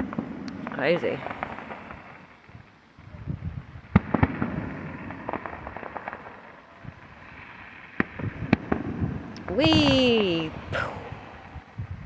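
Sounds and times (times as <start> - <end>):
fireworks bangs: 0.0 - 12.0
fireworks crackling and popping: 0.0 - 12.0.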